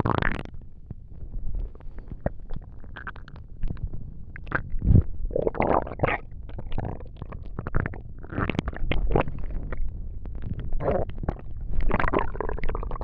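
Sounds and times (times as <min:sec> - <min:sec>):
stomach rumbling and gurgling: 0:00.0 - 0:13.0.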